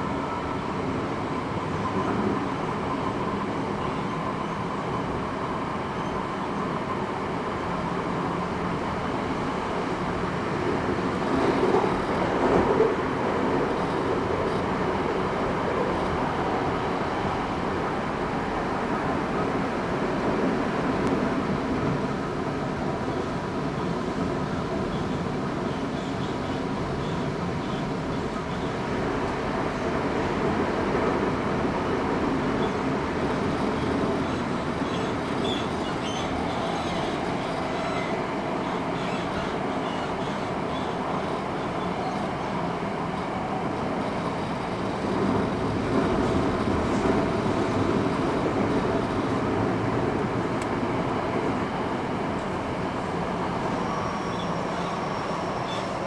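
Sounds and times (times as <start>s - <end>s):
subway train wheels rumbling: 0.0s - 56.0s.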